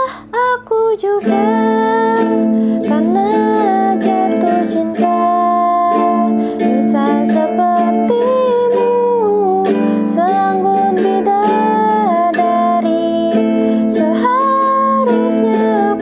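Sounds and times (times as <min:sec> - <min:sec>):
guitalele strumming: 0:00.0 - 0:16.0
woman singing: 0:00.0 - 0:16.0.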